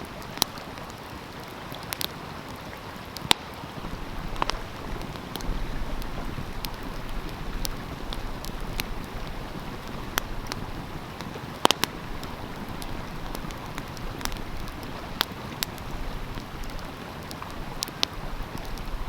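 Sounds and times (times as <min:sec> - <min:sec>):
stream flowing: 0:00.0 - 0:19.0
wood fire crackling and popping: 0:00.0 - 0:19.0.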